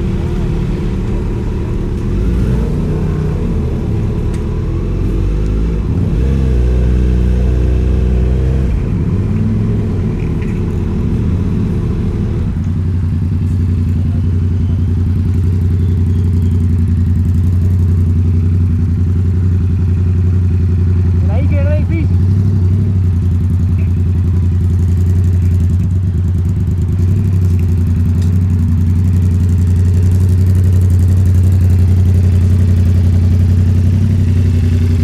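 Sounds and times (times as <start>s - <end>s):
motorcycle engine revving and idling: 0.0s - 35.0s.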